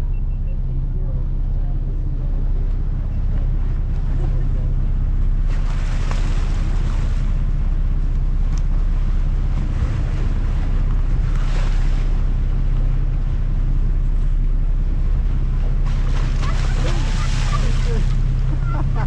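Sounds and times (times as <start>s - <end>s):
boat engine humming: 0.0s - 19.0s
wind buffeting microphone: 0.0s - 19.0s
rushing water: 2.8s - 19.0s.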